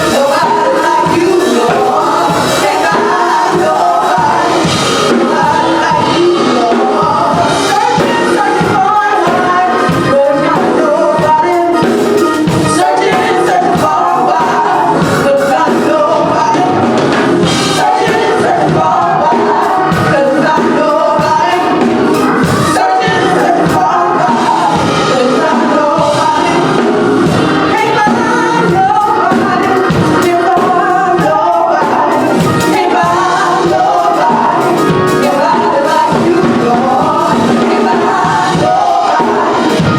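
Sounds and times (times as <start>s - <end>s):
gospel choir with band: 0.0s - 39.9s.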